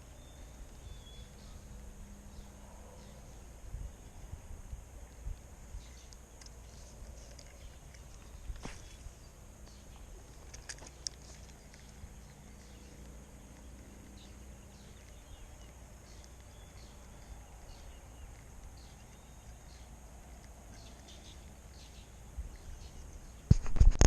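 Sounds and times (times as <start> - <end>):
low steady background: 0.0 - 23.5.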